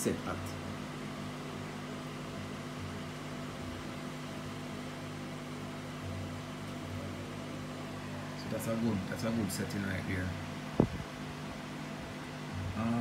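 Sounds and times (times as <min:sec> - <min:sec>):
room background hum: 0:00.0 - 0:13.0.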